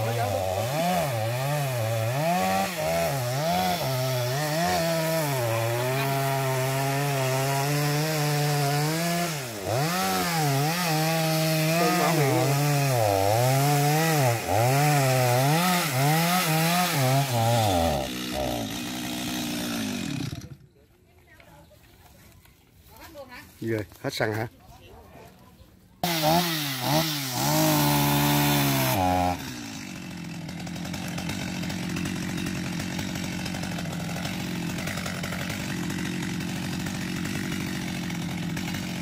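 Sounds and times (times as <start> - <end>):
chainsaw cutting tree trunk: 0.0 - 20.6, 26.0 - 39.0.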